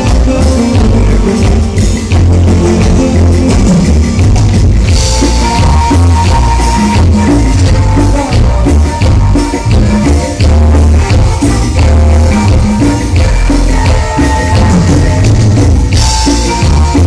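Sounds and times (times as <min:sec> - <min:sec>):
live band playing latin dance music: 0:00.0 - 0:17.0
shaken percussion: 0:00.0 - 0:17.0.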